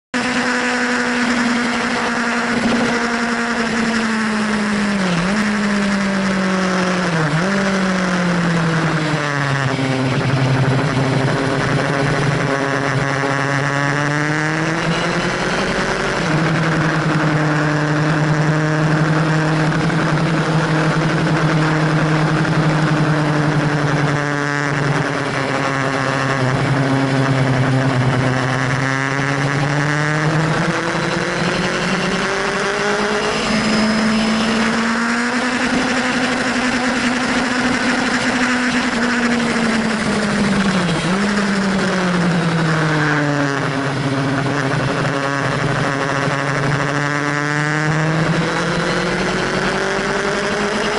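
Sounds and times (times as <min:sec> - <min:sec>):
motorcycle engine running hard: 0:00.1 - 0:50.9.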